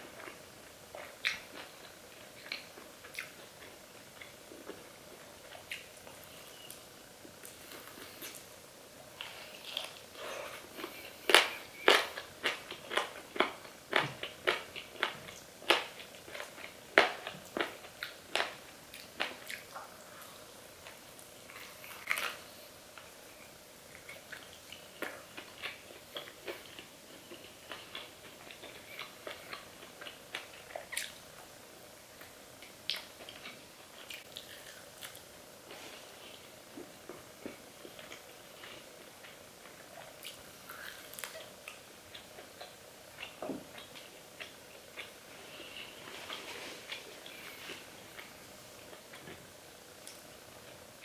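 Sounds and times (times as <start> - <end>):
chewing: 0.2 - 4.8, 9.2 - 22.4, 23.9 - 31.2, 32.2 - 49.4.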